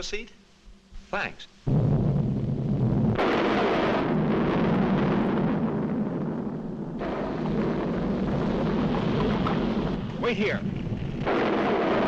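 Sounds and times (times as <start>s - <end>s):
cartoon volcano rumble and explosion: 1.7s - 12.0s.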